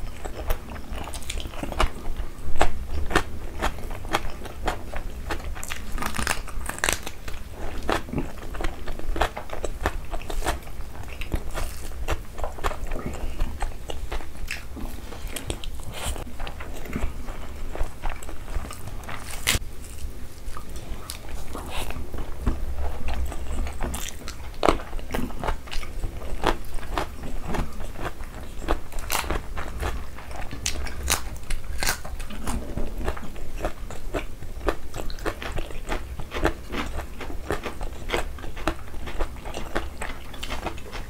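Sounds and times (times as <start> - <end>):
wet chewing: 0.0 - 41.0.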